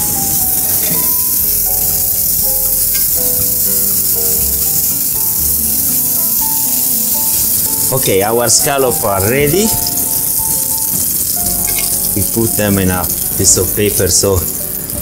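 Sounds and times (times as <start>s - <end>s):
background music: 0.0s - 15.0s
scallops sizzling in a pan: 0.0s - 15.0s.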